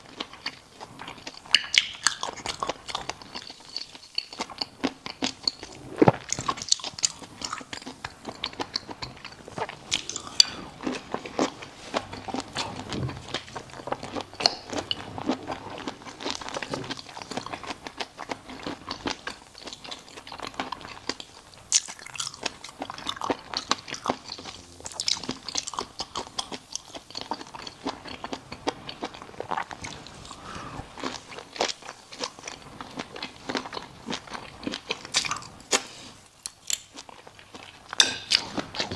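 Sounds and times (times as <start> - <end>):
crisp food crunching: 0.0 - 38.9.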